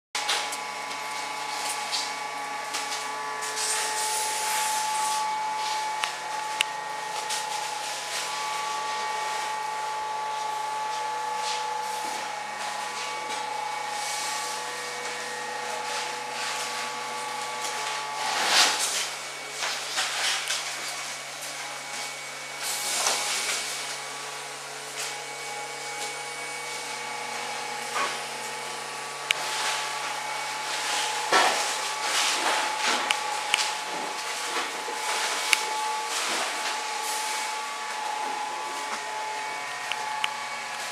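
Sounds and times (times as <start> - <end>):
machine hum: 0.2 - 40.9
whining motor tones: 0.2 - 40.9.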